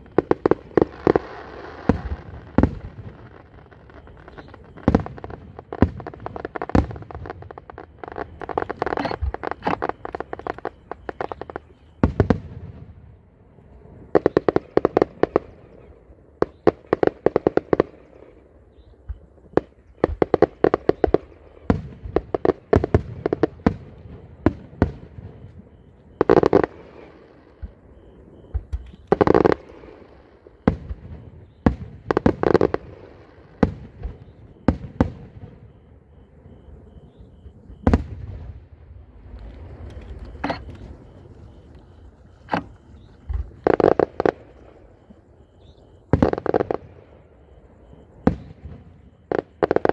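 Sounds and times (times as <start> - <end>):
echoing firework booms: 0.0 - 15.8, 18.9 - 41.7, 42.3 - 49.9
fireworks bangs and crackling: 0.0 - 49.9.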